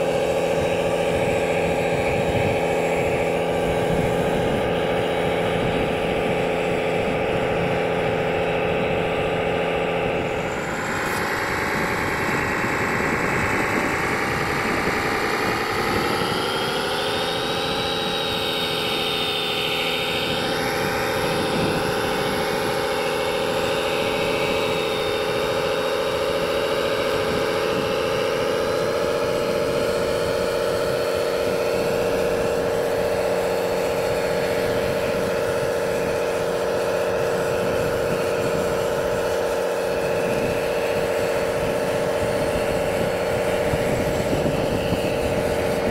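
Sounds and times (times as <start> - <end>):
model motor whine: 0.0 - 45.9.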